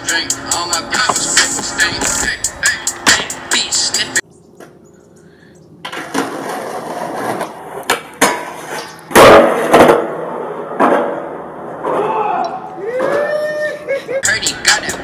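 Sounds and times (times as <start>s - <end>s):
skateboard wheels rolling on concrete: 0.0s - 4.8s, 5.8s - 15.0s.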